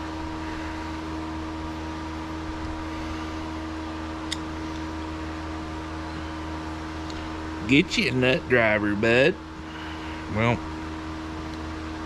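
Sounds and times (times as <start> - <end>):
mechanical hum with tones: 0.0 - 12.0.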